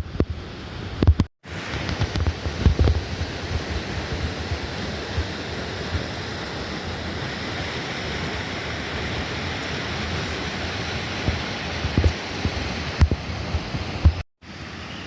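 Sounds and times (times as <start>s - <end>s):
fast river rushing: 1.5s - 14.1s.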